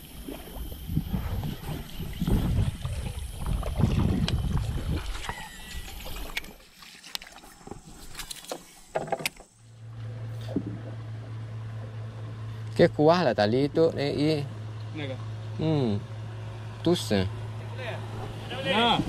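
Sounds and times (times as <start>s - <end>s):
steady low hum: 0.0s - 6.7s, 7.5s - 19.0s
water sloshing around boat: 0.0s - 19.0s.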